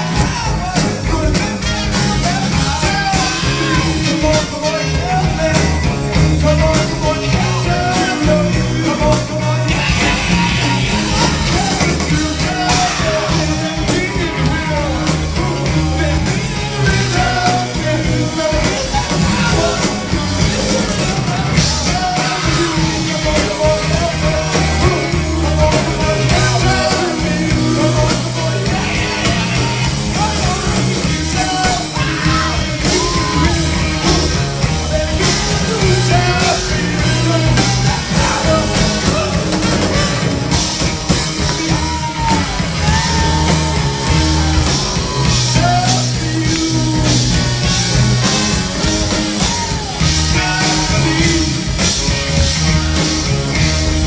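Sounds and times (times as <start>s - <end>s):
rock music with lead singer: 0.0s - 54.0s.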